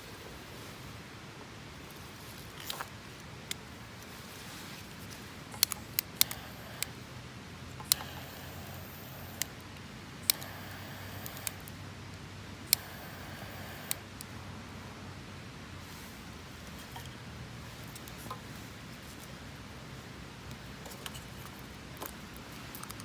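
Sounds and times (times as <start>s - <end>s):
low fire hiss: 0.0s - 23.0s.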